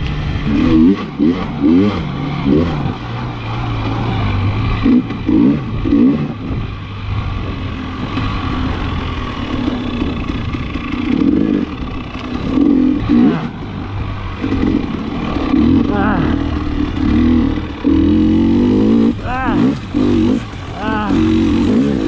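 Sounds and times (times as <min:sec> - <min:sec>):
two-stroke engine surging: 0:00.0 - 0:22.0.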